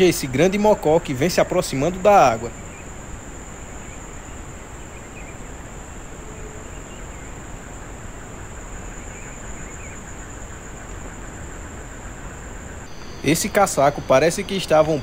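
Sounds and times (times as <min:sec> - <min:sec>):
constant hiss: 0:00.0 - 0:15.0
insects trilling: 0:00.0 - 0:15.0.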